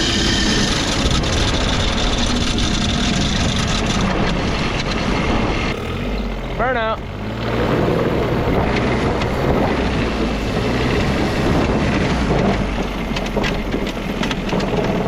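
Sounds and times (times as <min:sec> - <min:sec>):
loud rushing noise: 0:00.0 - 0:12.9
small diesel engine running hard: 0:00.0 - 0:15.0.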